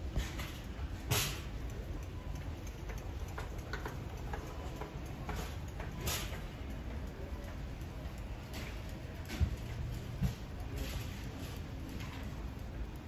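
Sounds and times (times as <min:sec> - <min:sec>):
light ticks and clicks: 0:00.0 - 0:13.0.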